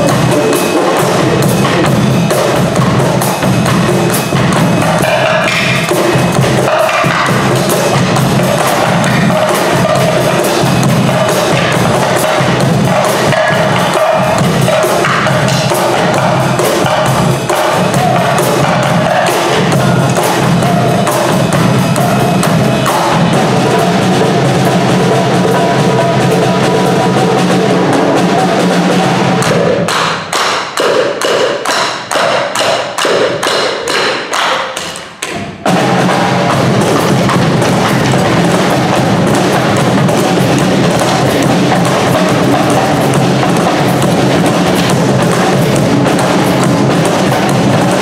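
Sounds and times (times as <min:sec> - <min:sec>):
drum kit playing a groove: 0:00.0 - 0:48.0
hand drums playing: 0:00.0 - 0:48.0.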